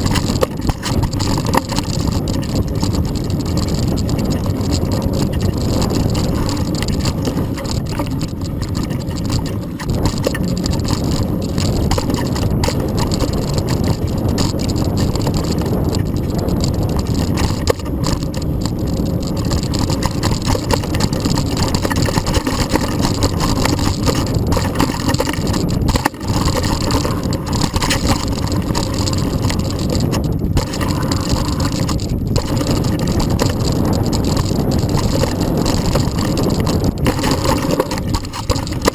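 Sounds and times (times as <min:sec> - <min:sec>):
bike knocking over bumps: 0:00.0 - 0:38.9
bike tyres rumbling on dirt: 0:00.0 - 0:38.9
wind on the microphone: 0:00.0 - 0:38.9.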